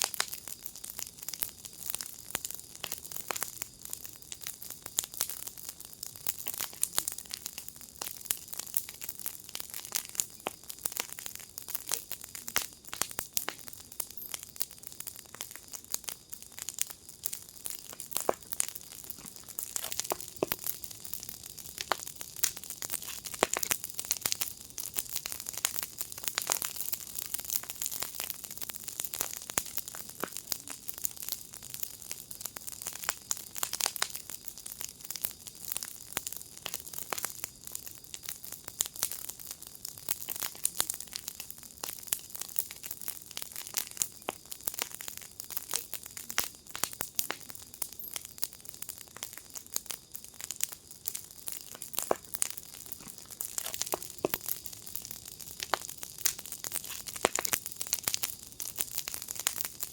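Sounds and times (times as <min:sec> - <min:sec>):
fire hissing: 0:00.0 - 0:59.9
wood fire crackling and popping: 0:00.0 - 0:59.9.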